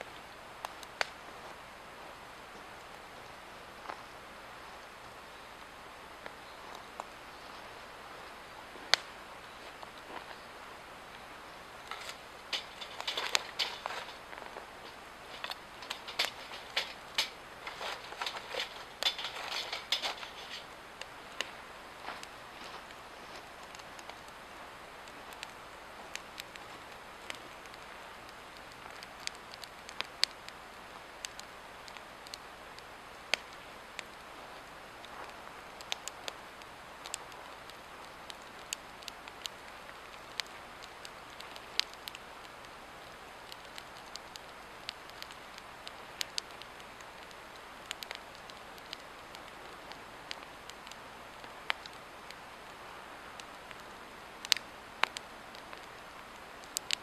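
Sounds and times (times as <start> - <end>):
log fire crackling and popping: 0.0 - 57.0
fire hissing: 0.1 - 57.0.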